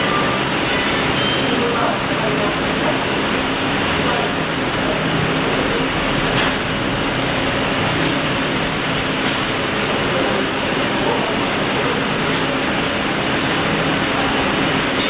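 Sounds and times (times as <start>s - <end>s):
electric arc welding crackle: 0.0s - 15.0s.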